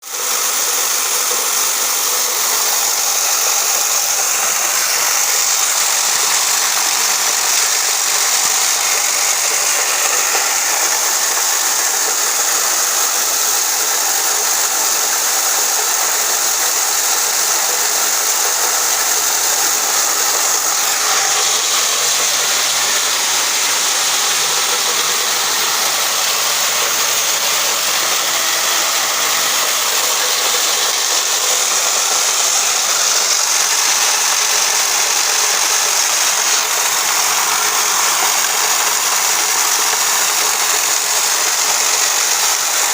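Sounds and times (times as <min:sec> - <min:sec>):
grinding machine whirring: 0:00.0 - 0:42.9.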